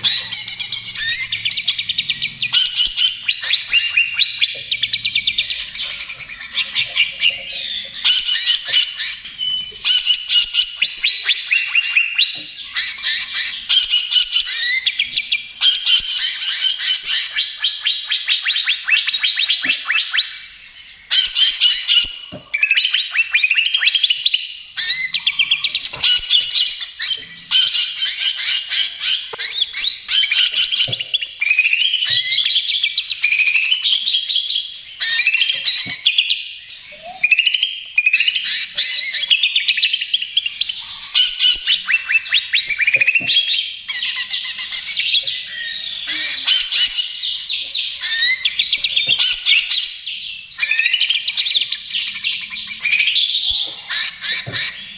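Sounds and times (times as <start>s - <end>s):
bird singing fast trills and whistles: 0.0s - 54.9s.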